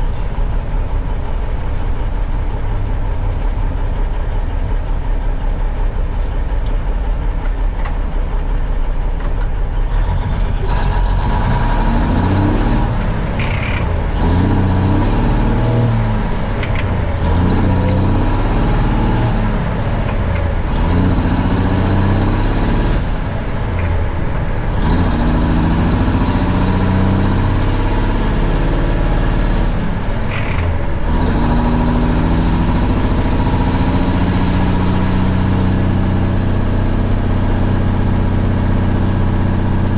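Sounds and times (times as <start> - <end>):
truck diesel engine shifting gears: 0.0 - 39.9.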